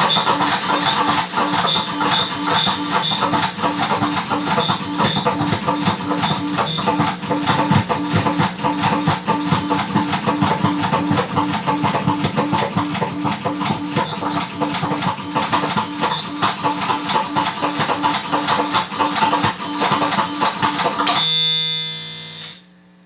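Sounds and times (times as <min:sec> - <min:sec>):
pulsing buzzing tone: 0:00.0 - 0:11.4, 0:12.9 - 0:22.8
distorted rapid calculator clicks: 0:00.0 - 0:22.5.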